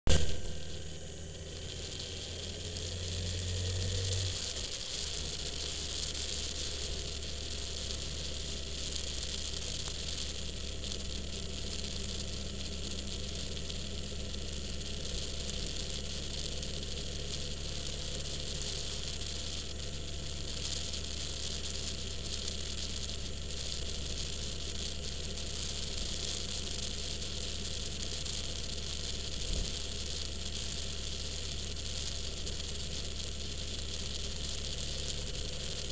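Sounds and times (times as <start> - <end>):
car engine hum: 0.0 - 35.9
tyre and road hiss: 0.1 - 35.9.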